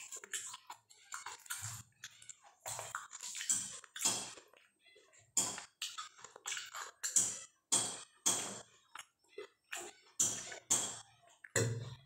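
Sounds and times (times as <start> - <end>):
person chewing open-mouthed: 0.0 - 11.7.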